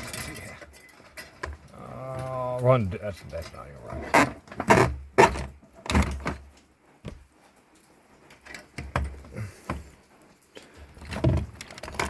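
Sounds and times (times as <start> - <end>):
hoses knocking and rubbing: 0.0 - 7.4, 8.3 - 10.2, 10.8 - 12.0.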